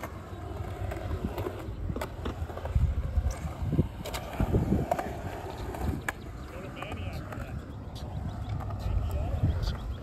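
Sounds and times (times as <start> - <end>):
skateboard wheels rolling on concrete: 0.0 - 10.0.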